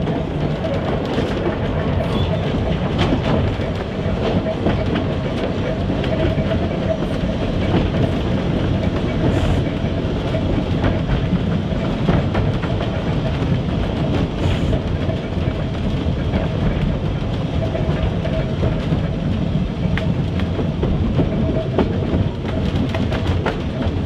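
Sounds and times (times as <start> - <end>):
tram wheels rumbling on rail: 0.0 - 24.0.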